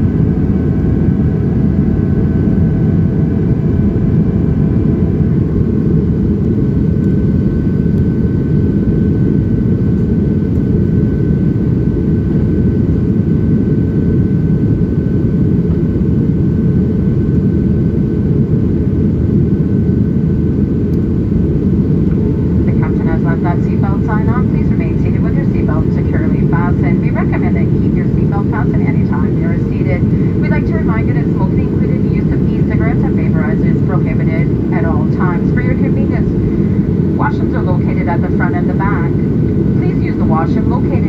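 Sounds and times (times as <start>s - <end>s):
jet engine rumble in cabin: 0.0s - 41.0s.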